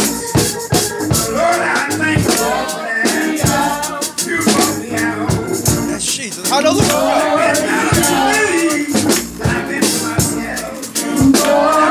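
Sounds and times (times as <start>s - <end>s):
live church music: 0.0s - 11.9s
man singing gospel: 0.0s - 11.9s
shaker percussion: 0.0s - 11.9s.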